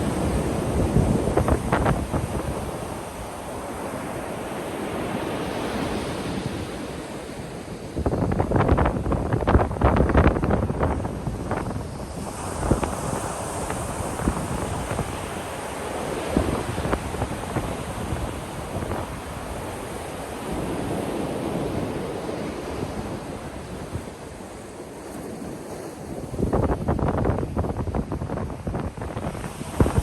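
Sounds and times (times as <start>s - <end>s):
ocean waves breaking: 0.0s - 30.0s
wind on microphone: 0.0s - 30.0s.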